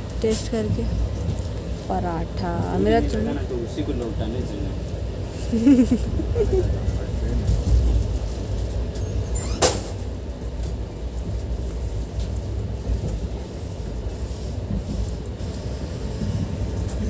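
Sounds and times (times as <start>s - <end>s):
train rumbling inside coach: 0.0s - 17.0s.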